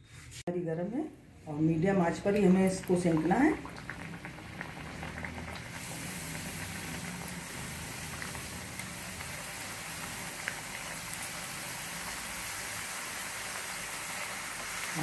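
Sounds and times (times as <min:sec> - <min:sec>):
chips sizzling in hot oil: 0:02.2 - 0:15.0.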